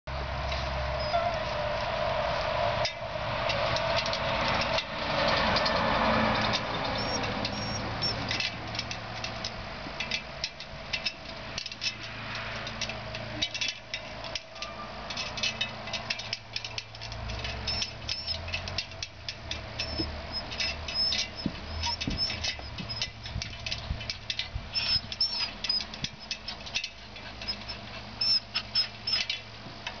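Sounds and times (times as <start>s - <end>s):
dog claws on metal ladder: 2.8s - 30.0s.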